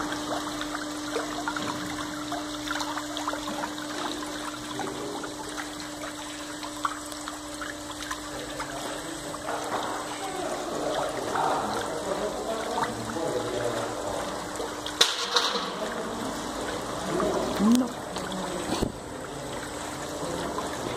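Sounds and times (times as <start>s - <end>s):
steady hum: 0.0s - 20.9s
water swirling and splashing: 0.0s - 20.9s.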